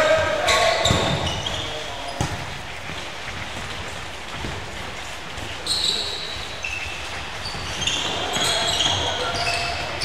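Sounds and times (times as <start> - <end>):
shoes squeaking on hard floor: 0.0 - 10.0.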